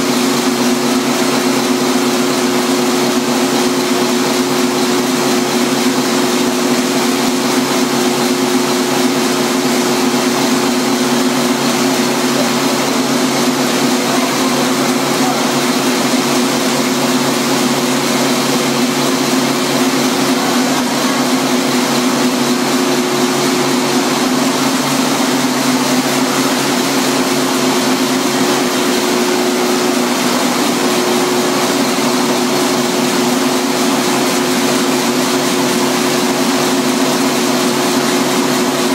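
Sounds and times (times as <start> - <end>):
large gas engine running: 0.0 - 38.9.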